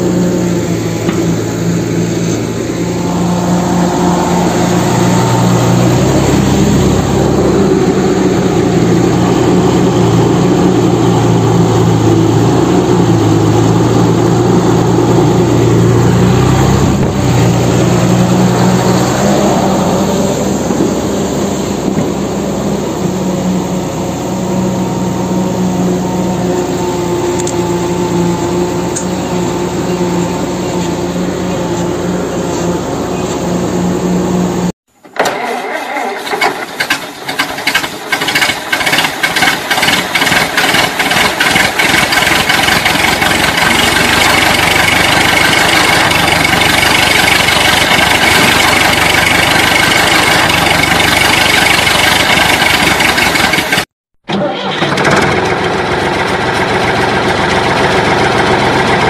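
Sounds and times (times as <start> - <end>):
loud engine drone: 0.0 - 59.0.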